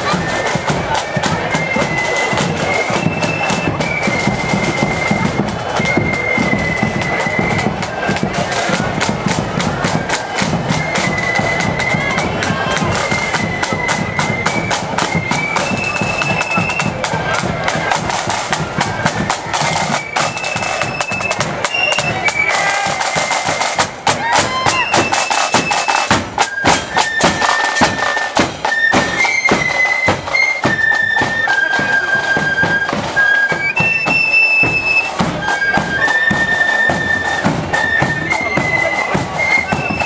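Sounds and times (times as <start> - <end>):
flutes playing melody: 0.0 - 40.0
side drums beating: 0.0 - 40.0.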